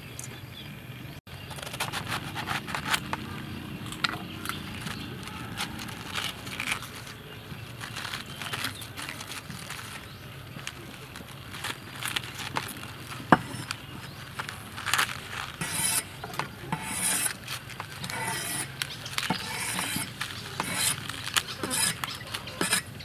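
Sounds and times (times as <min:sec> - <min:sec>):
cabbage leaves crackling and snapping: 0:01.4 - 0:23.0.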